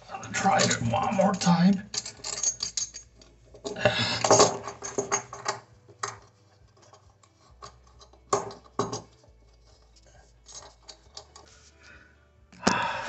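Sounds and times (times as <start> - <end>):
scraping clatter: 0.3 - 11.6.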